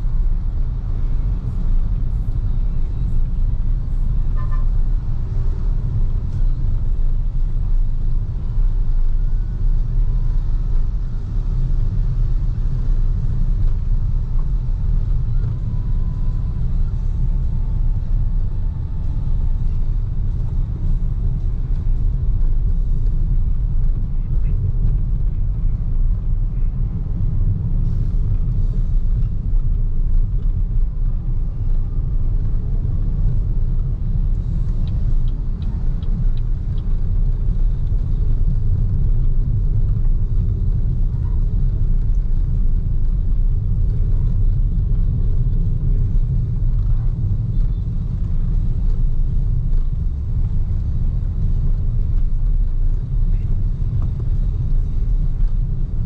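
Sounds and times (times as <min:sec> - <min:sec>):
tyre and road noise: 0:00.0 - 0:56.0
wind noise: 0:00.0 - 0:56.0.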